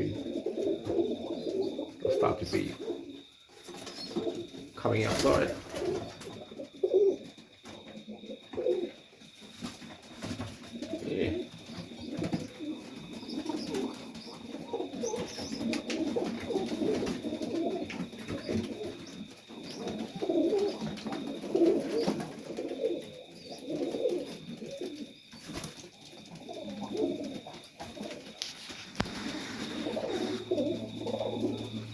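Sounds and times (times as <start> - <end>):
faint clicks of birds moving: 0.0 - 31.9
pigeons cooing: 0.0 - 31.9.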